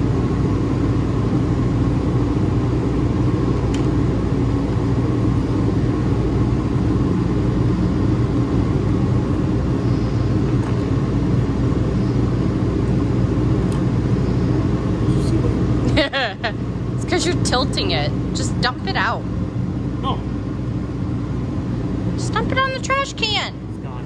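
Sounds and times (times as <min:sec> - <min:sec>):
low mechanical rumble: 0:00.0 - 0:24.0.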